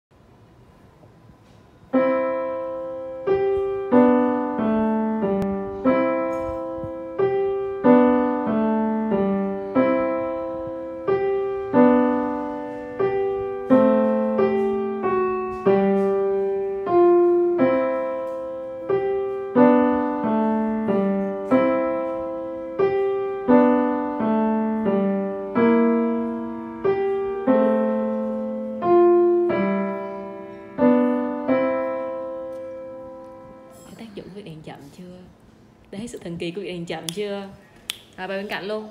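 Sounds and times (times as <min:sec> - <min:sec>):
solo piano practice piece: 0:01.8 - 0:34.2.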